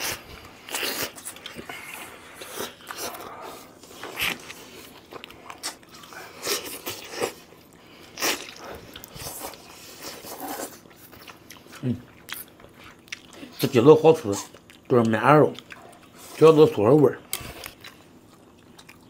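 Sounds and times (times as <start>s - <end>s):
people biting and chewing: 0.0s - 19.0s.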